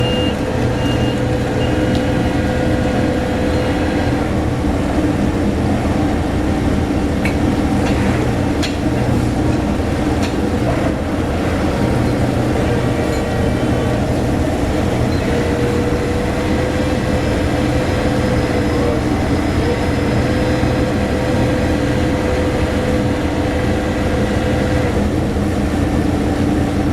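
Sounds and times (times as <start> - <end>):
engine drone: 0.0 - 26.9.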